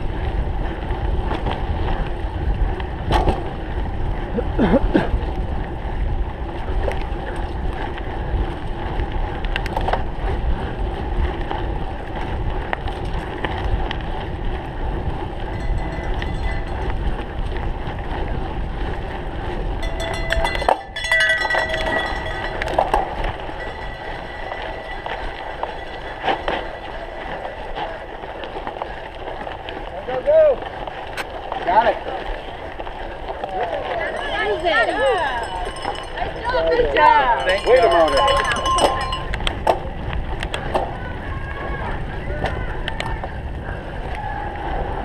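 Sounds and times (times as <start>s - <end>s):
wind on microphone: 0.0s - 29.9s, 32.2s - 45.0s
bike tyres rolling: 0.0s - 45.0s.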